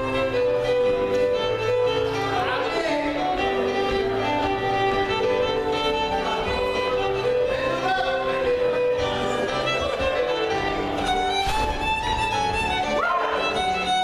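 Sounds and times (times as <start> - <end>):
fiddle playing dance tune: 0.0 - 14.0
keyboard accompaniment: 0.0 - 14.0.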